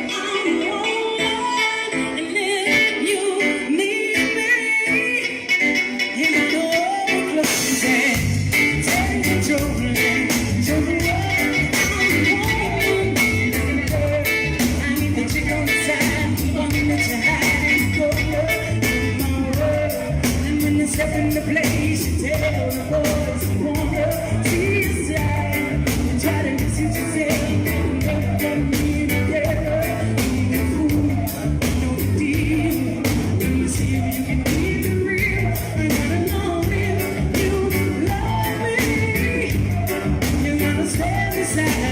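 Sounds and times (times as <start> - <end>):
person singing: 0.0 - 41.9
reggae band with heavy bass: 0.0 - 41.9.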